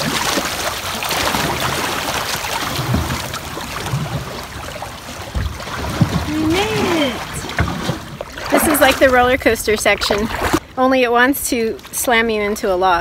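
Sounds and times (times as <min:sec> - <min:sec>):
floodwater rushing and splashing: 0:00.0 - 0:10.7.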